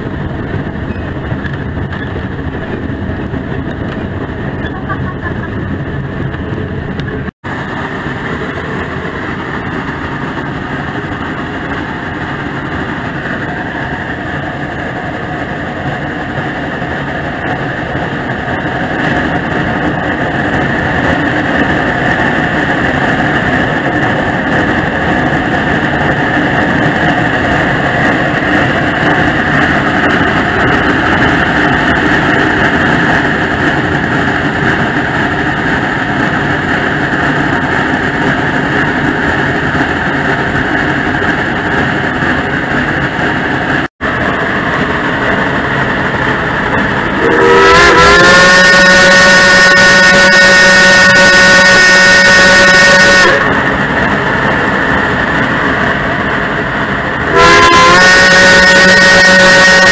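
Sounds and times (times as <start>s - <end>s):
steam locomotive working: 0.0s - 59.9s.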